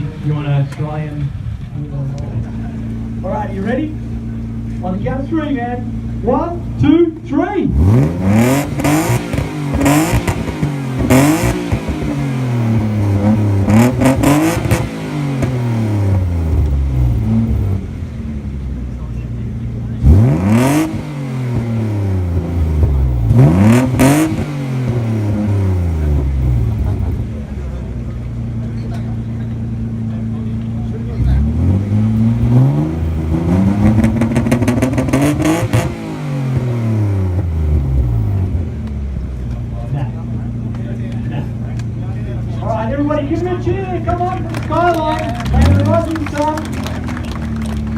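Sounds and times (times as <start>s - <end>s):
car engine revving: 0.0s - 47.9s
exhaust cracks: 0.0s - 47.9s.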